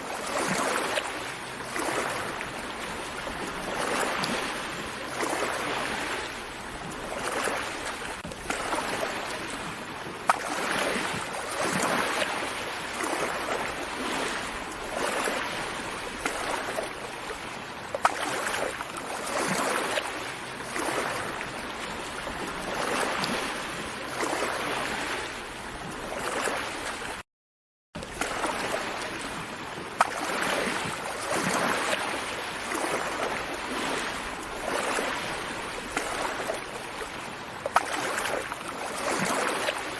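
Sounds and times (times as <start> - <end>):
sea waves washing onto shore: 0.0 - 27.2, 28.0 - 39.9.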